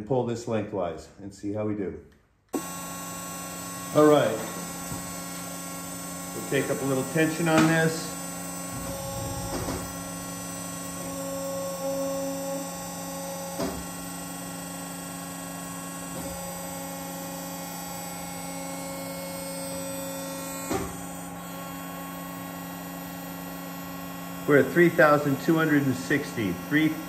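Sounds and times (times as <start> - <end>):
test rig machine hum: 2.5 - 27.0.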